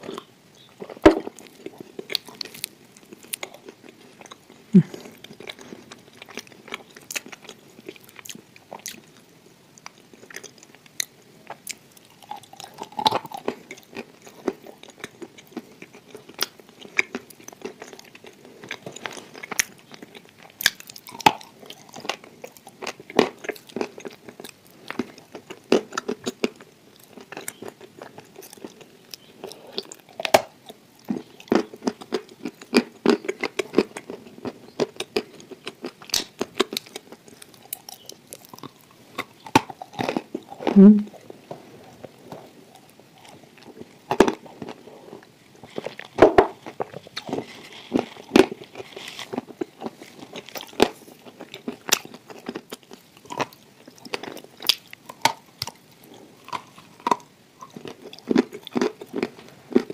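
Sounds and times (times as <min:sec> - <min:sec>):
woman chewing crunchy clay: 0:00.0 - 0:59.9.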